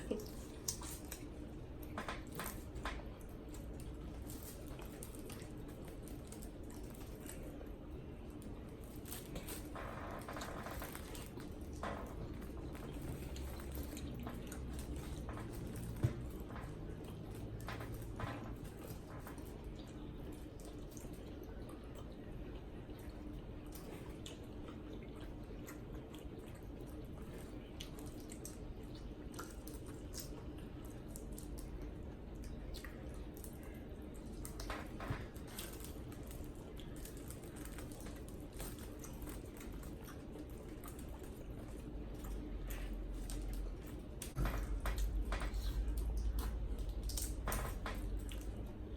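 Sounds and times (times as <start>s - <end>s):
wet chewing and squelching: 0.0s - 48.9s.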